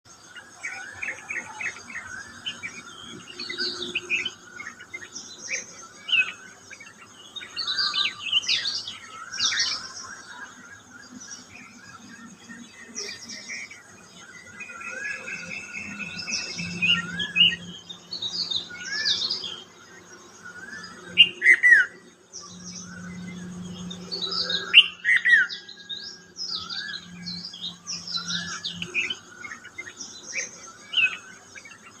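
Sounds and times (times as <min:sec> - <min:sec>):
birds chirping and singing: 0:00.1 - 0:32.0.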